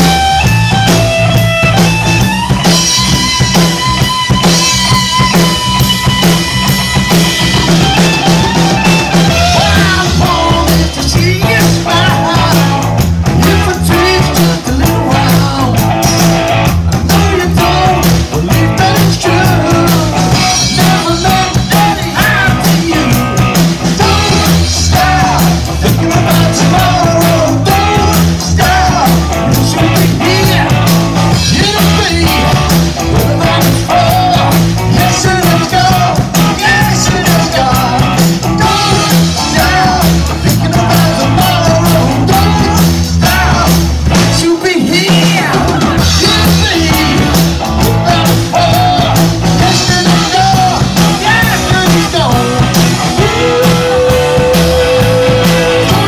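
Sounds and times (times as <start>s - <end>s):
live rock band playing: 0.0s - 56.0s
man singing: 7.6s - 56.0s.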